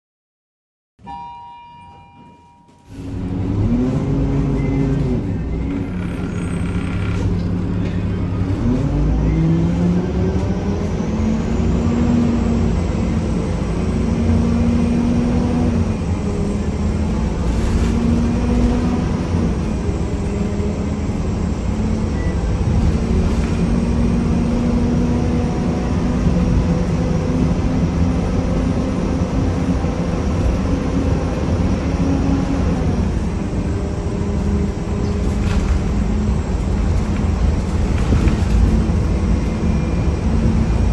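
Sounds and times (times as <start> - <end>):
diesel bus engine running: 2.9 - 40.9.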